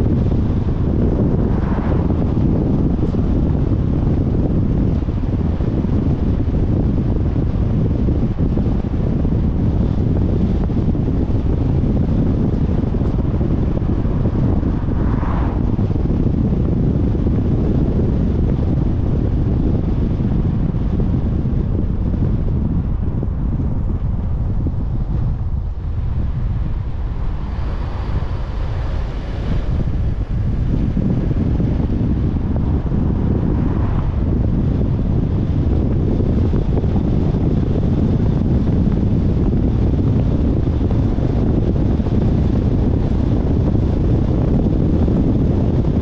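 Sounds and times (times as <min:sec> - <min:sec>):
car road noise: 0:00.0 - 0:46.0
wind rumble on microphone: 0:00.0 - 0:46.0.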